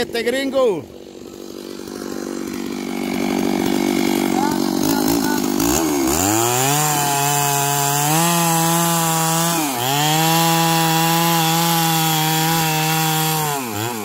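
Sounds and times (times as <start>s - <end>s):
chainsaw sawing through log: 0.0s - 14.0s.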